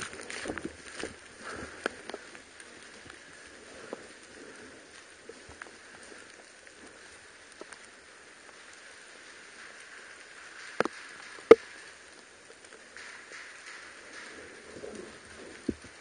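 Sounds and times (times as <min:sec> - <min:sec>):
rain pattering on foliage: 0:00.0 - 0:16.0
small drips: 0:00.0 - 0:16.0.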